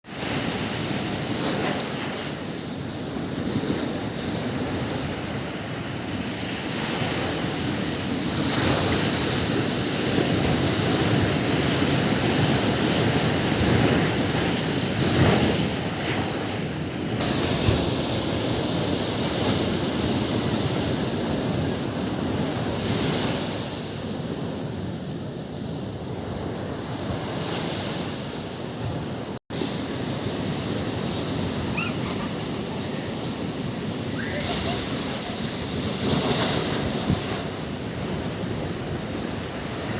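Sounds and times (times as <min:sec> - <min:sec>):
surf breaking on beach: 0:00.1 - 0:39.9
wind buffeting microphone: 0:06.7 - 0:39.9.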